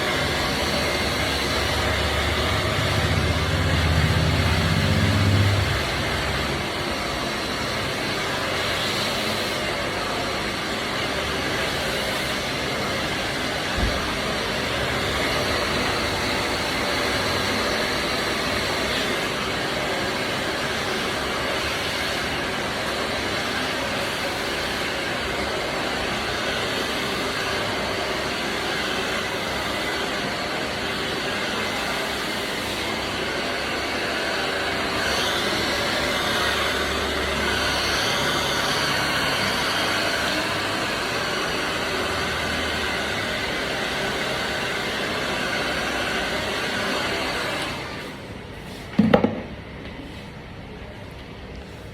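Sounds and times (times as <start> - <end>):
hair dryer blowing: 0.0 - 50.2.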